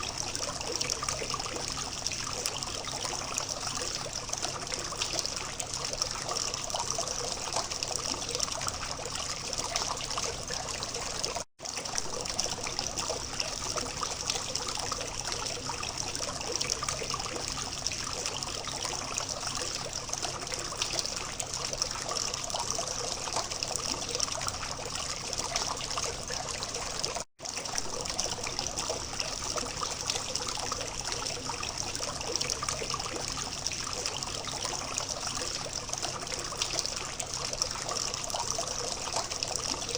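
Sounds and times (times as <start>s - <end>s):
fountain water trickling and splashing: 0.0s - 39.9s.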